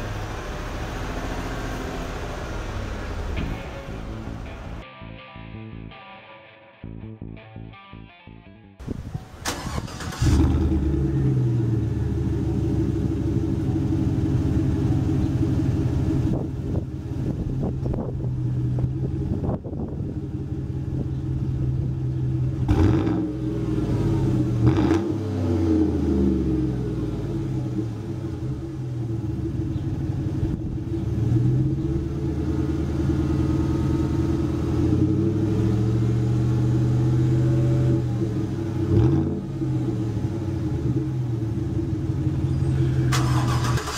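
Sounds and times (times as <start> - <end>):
truck engine idling and revving: 0.0 - 4.8, 9.4 - 43.9.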